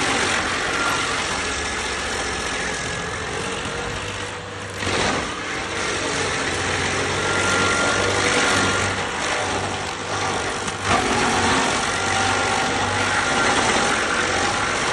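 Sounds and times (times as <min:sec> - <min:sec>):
stump grinder running: 0:00.0 - 0:14.9.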